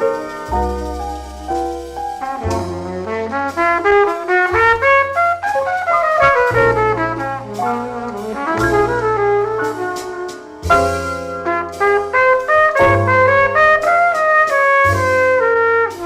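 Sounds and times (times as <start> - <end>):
bass line: 0.0 - 16.0
jazz trumpet solo: 0.0 - 16.0.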